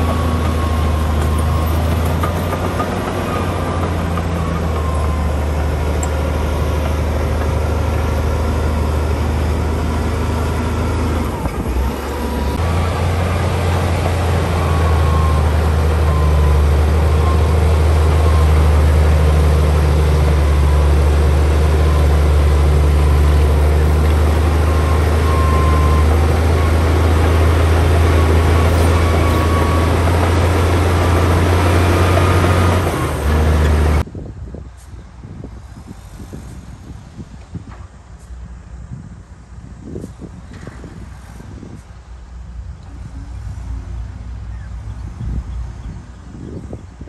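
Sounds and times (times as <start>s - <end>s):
bulldozer diesel engine droning: 0.0s - 34.2s, 35.3s - 47.0s.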